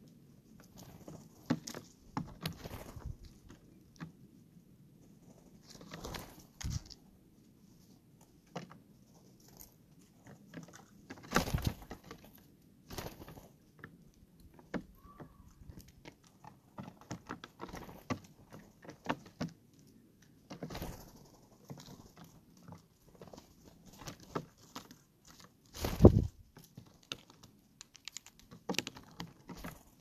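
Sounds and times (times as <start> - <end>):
birds pecking at peanuts: 0.0 - 30.0.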